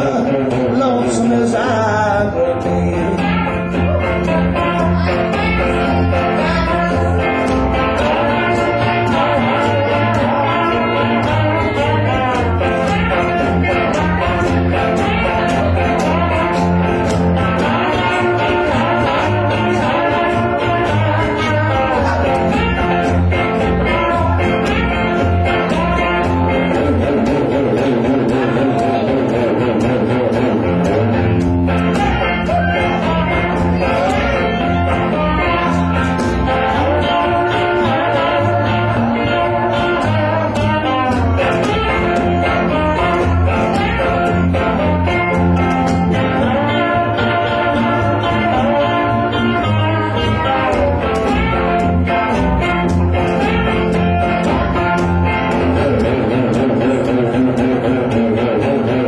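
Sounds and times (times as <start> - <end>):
electric guitars playing blues: 0.0 - 59.0
upright double bass: 0.0 - 59.0.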